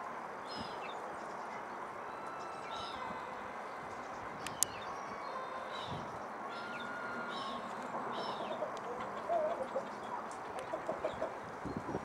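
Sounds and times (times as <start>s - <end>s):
small birds chirping: 0.4s - 12.0s.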